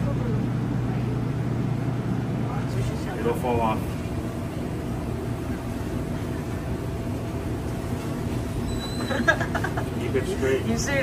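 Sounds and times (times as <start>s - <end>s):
faint mechanical hum: 0.0s - 11.0s.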